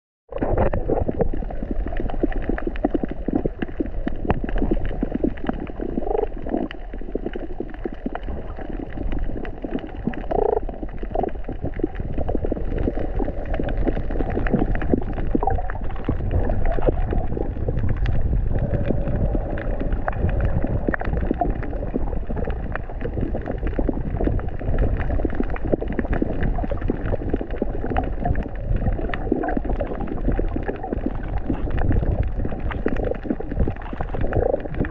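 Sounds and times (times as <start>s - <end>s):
underwater low rumble: 0.3s - 34.9s
water gurgles: 0.3s - 34.9s
faint crackling clicks: 0.4s - 34.9s.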